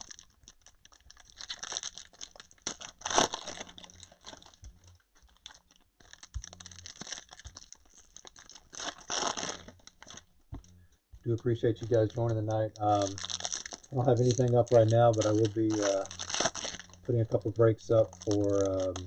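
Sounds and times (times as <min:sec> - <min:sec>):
foil wrapper crinkling and tearing: 0:00.0 - 0:19.0.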